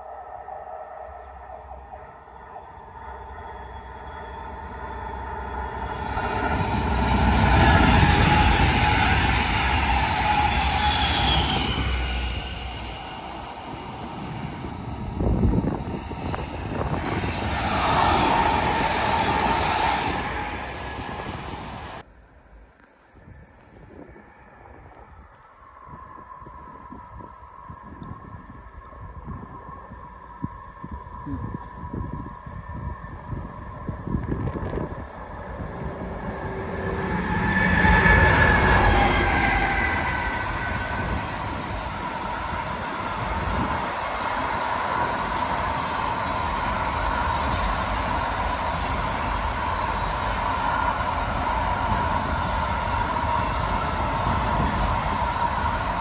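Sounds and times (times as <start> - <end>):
distant electric train rolling: 0.0 - 22.1, 23.3 - 56.0
train whine: 0.0 - 22.1, 22.8 - 56.0
wind buffeting microphone: 1.8 - 22.1, 23.1 - 56.0.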